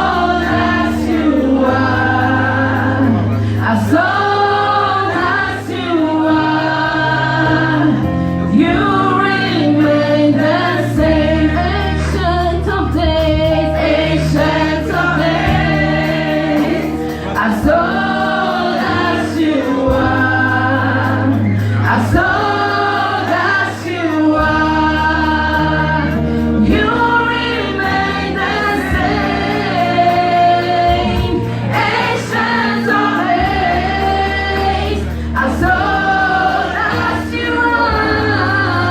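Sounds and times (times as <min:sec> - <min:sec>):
choir singing in harmony: 0:00.0 - 0:38.9
instrumental backing: 0:00.0 - 0:38.9.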